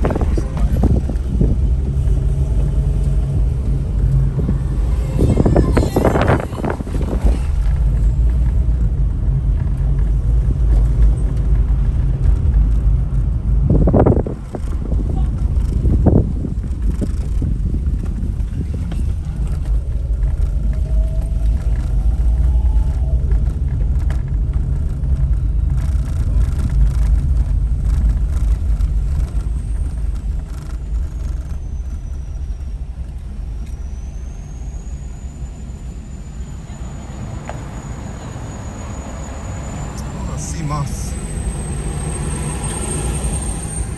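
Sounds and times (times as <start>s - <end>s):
car interior engine rumble: 0.0s - 43.9s.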